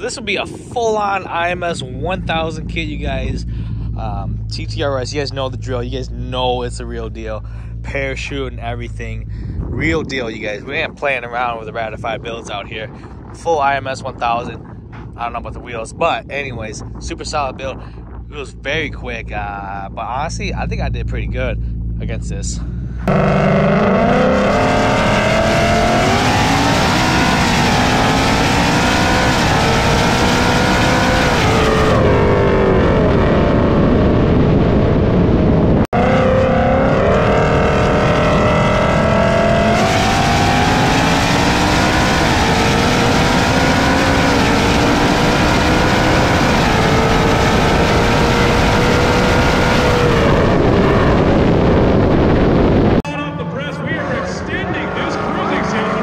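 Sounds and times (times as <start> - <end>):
car engine at full throttle: 0.0 - 53.2, 53.9 - 56.0.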